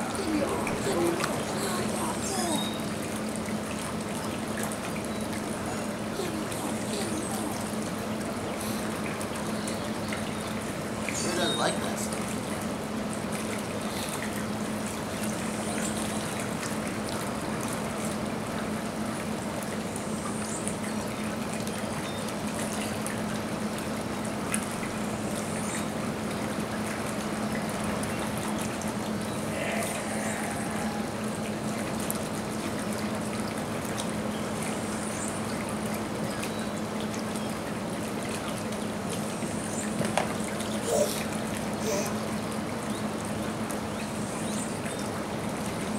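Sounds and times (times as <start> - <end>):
constant low hum: 0.0 - 45.9
water trickling: 0.0 - 45.9.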